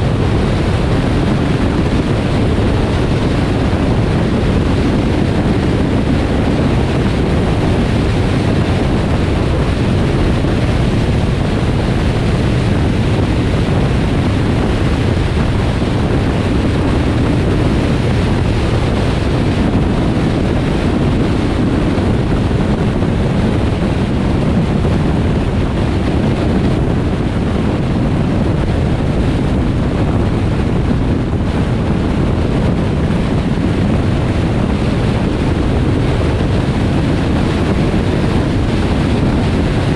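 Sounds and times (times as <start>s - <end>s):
wind rushing past vehicle: 0.0s - 39.9s.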